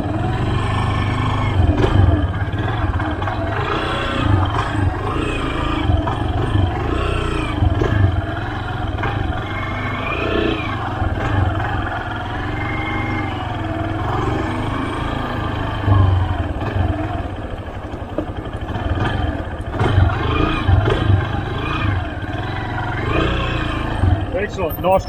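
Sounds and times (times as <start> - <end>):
motorcycle engine at low speed: 0.0 - 25.0.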